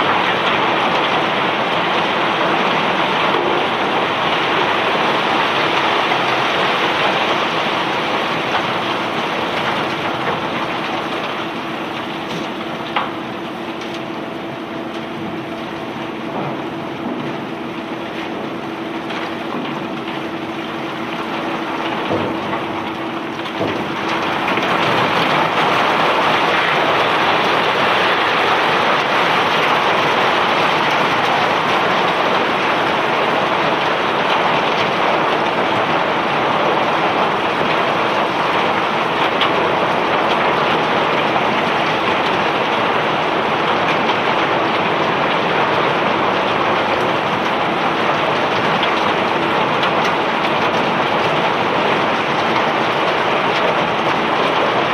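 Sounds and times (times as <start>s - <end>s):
rocks pouring off a conveyor: 0.0s - 14.2s, 14.8s - 54.9s.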